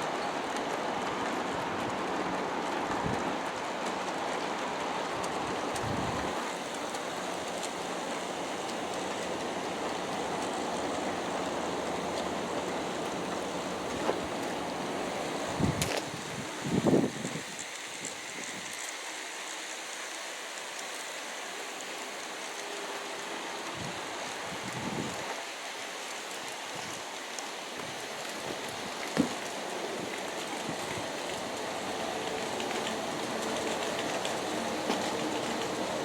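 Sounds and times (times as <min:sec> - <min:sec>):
model train wheels on rail: 0:00.0 - 0:36.0.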